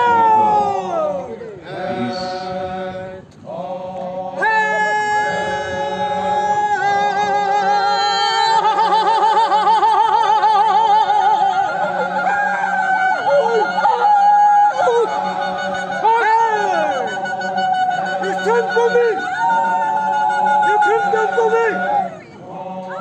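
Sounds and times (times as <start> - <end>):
men chanting in long notes: 0.0 - 23.0.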